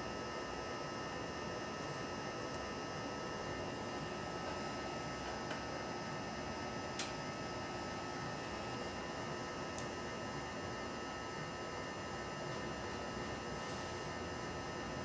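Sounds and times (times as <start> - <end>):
stove fan humming: 0.0 - 15.0.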